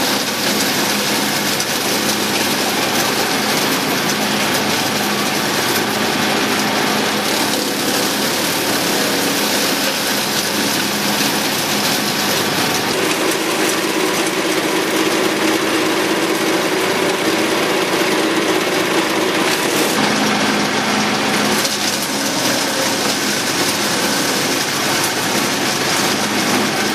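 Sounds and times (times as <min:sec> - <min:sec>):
wood chipper engine running: 0:00.0 - 0:26.9.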